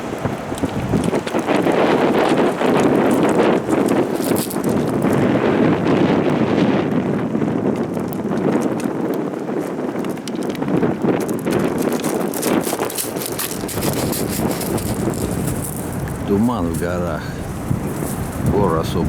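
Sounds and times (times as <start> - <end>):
sharp rain taps: 0.0 - 5.5, 7.0 - 19.0
strong wind buffeting microphone: 0.0 - 19.0.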